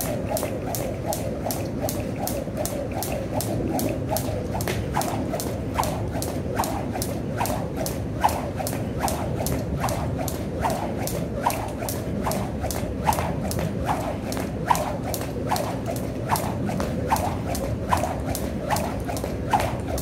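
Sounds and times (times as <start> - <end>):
jump rope ticking on floor: 0.0 - 20.0.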